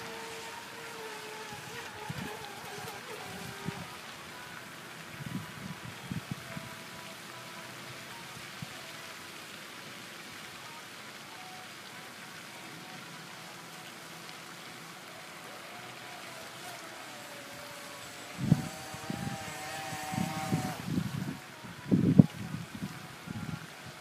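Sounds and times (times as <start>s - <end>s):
electric boat motor whine: 0.0s - 9.2s, 10.9s - 24.0s
fountain spray splashing on water: 0.0s - 24.0s.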